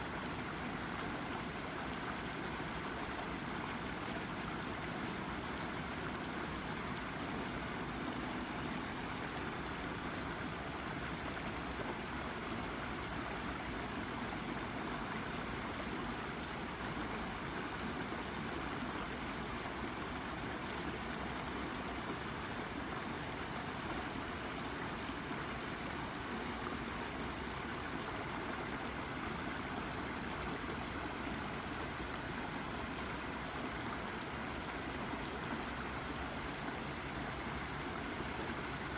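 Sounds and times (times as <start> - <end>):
brook babbling over rock: 0.0 - 38.9.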